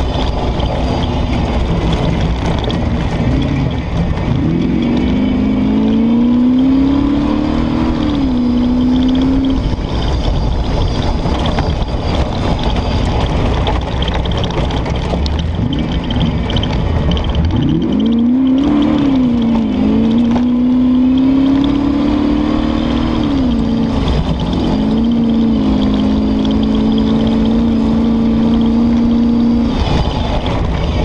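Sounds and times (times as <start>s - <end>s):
car rumbling and rattling: 0.0s - 31.0s
race car engine accelerating: 0.0s - 31.0s.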